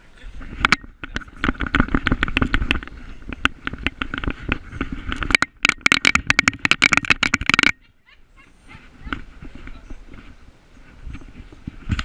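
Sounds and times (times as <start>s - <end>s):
camera knocking and scraping: 0.4s - 7.8s, 9.0s - 12.0s.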